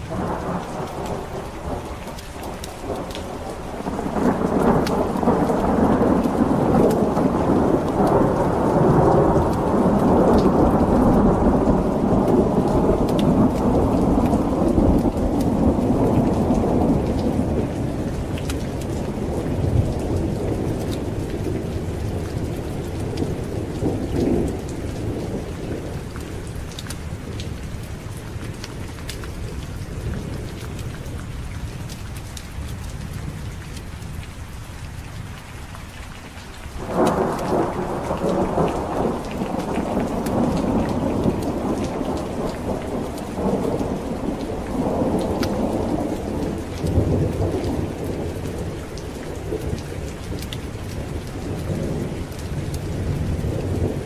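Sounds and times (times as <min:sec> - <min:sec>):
rolling thunder: 0:00.0 - 0:30.9, 0:36.8 - 0:54.0
steady rain: 0:00.0 - 0:54.0
thunderclap: 0:00.1 - 0:27.5, 0:36.8 - 0:54.0.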